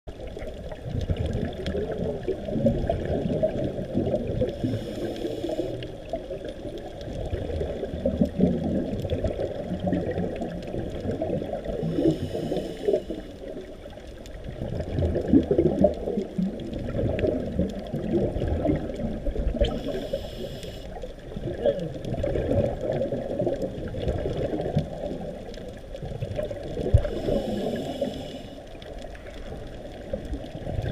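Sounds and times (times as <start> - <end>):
muffled underwater bubbles gurgling: 0.1 - 30.9.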